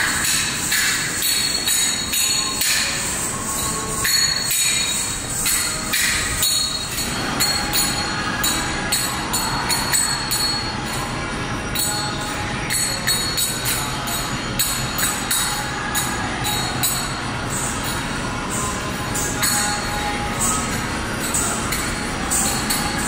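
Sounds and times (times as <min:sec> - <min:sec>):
ankle bells jingling: 0:00.0 - 0:23.0.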